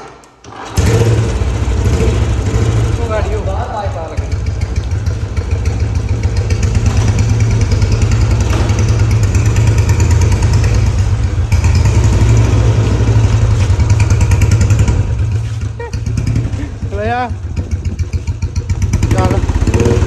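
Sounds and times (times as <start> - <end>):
motorcycle engine deep thumping exhaust: 0.8 - 20.0.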